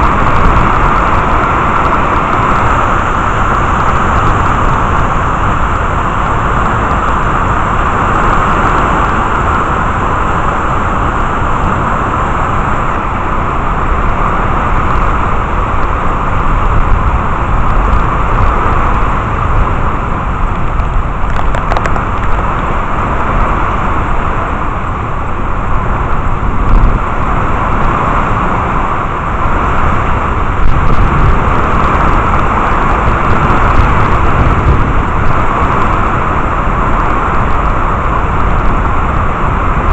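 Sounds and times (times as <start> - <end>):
rain: 0.0 - 39.9
wind: 0.0 - 39.9
wind rumbling on microphone: 0.0 - 39.9.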